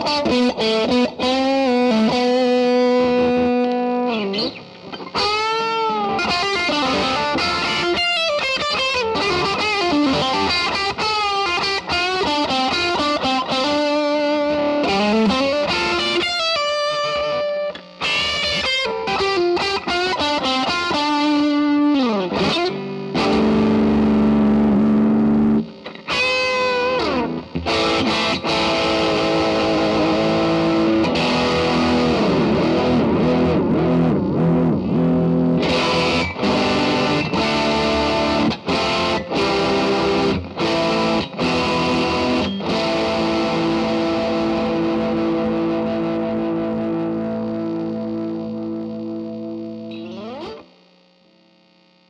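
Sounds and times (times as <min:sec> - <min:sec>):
distorted electric guitar lead: 0:00.0 - 0:52.0.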